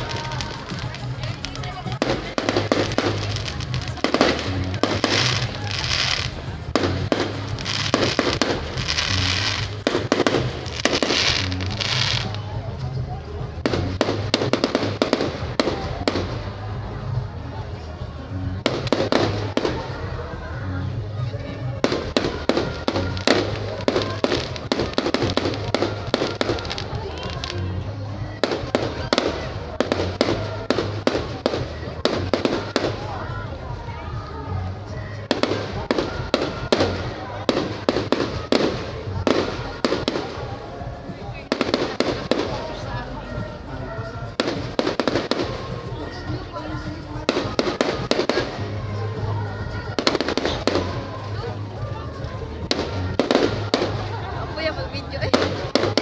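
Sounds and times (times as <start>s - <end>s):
fireworks bangs: 0.0s - 56.0s
fireworks crackling: 0.0s - 56.0s
music playing: 0.0s - 56.0s.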